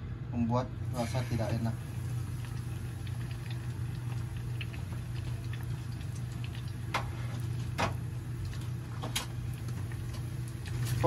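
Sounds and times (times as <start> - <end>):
oil crackling and popping: 0.9 - 11.0.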